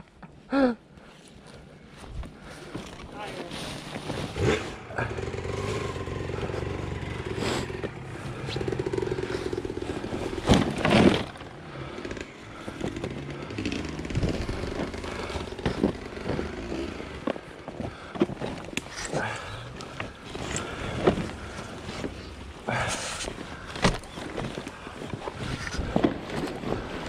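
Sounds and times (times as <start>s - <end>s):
bike crashing and scraping: 3.8s - 27.0s
dirt bike engine running: 4.1s - 27.0s.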